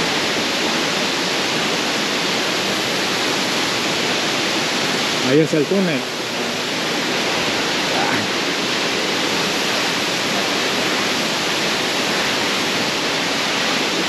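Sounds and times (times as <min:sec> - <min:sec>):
waterfall pouring onto rock: 0:00.0 - 0:14.0.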